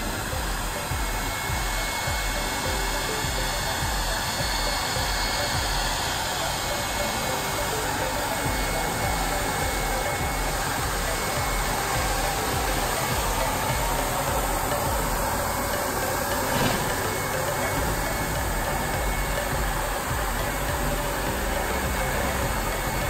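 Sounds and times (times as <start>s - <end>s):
electric blower whining: 0.0s - 23.0s.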